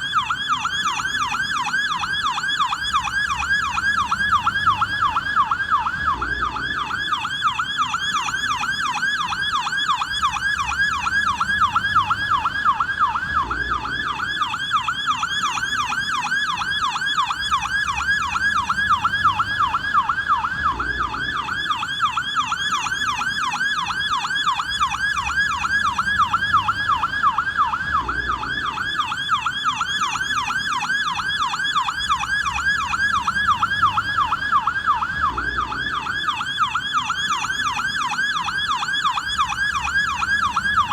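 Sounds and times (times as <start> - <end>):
police car siren yelping: 0.0 - 40.9.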